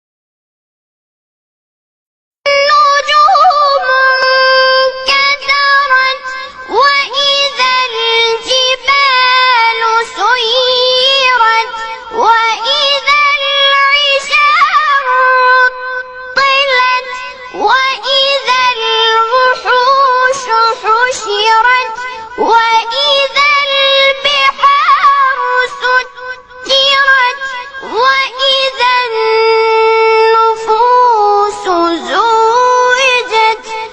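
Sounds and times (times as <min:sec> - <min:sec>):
child reciting melodically: 0:02.5 - 0:33.9.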